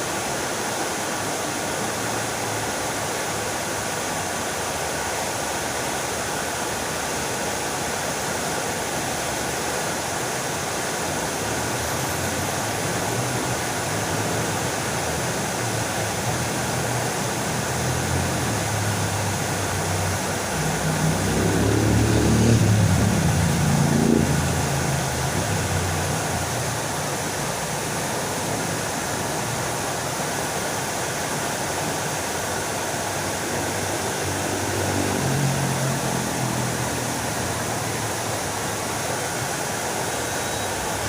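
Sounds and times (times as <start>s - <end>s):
fountain water splashing: 0.0s - 41.0s.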